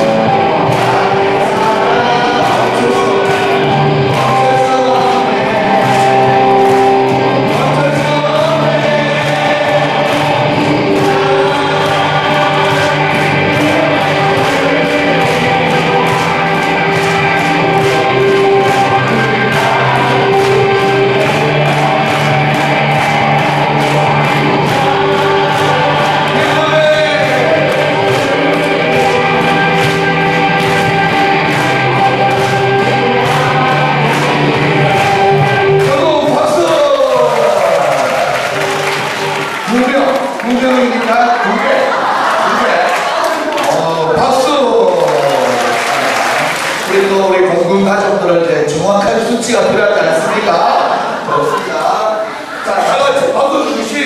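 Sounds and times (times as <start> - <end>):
group singing over a beat: 0.0 - 43.9.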